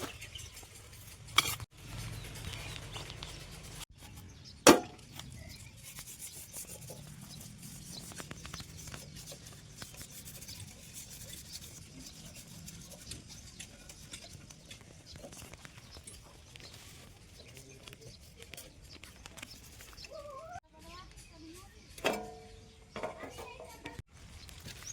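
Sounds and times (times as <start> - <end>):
rubbing and scraping with ticks: 0.0 - 22.3, 22.9 - 24.9.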